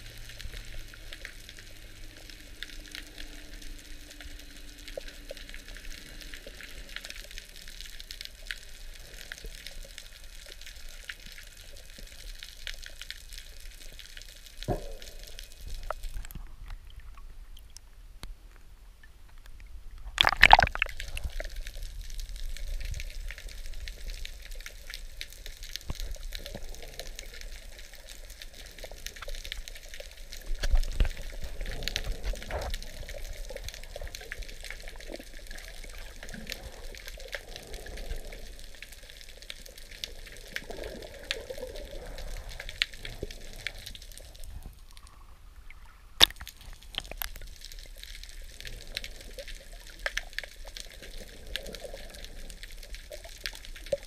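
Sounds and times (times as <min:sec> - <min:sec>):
underwater water noise: 0:00.0 - 0:54.0
clicks and crackles: 0:00.3 - 0:54.0.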